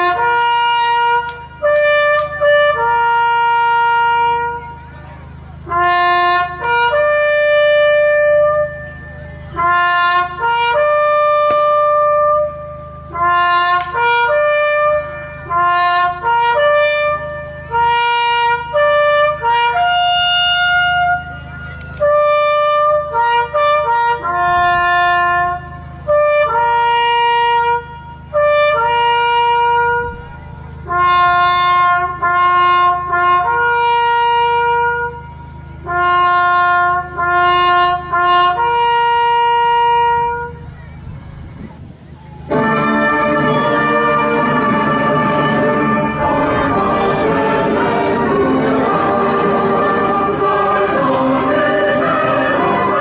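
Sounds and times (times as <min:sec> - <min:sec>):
solo trumpet playing: 0:00.0 - 0:40.8, 0:42.0 - 0:53.0
steady low hum: 0:00.0 - 0:53.0.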